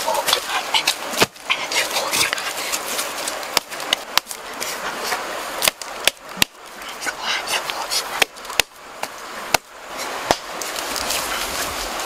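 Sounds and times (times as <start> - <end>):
steady outdoor background hiss: 0.0 - 12.0.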